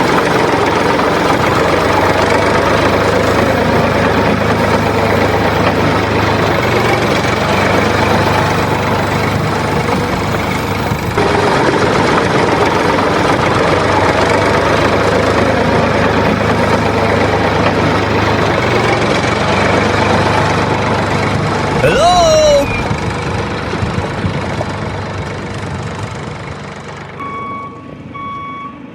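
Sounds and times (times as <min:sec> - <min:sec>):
small engine idling with clatter: 0:00.0 - 0:21.8, 0:22.9 - 0:28.9.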